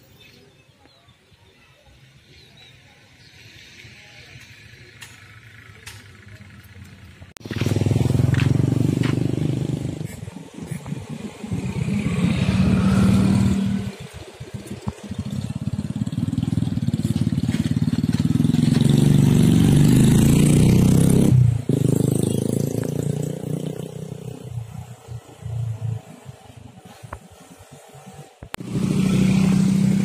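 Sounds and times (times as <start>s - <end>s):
motorcycle engines passing: 3.1s - 30.0s.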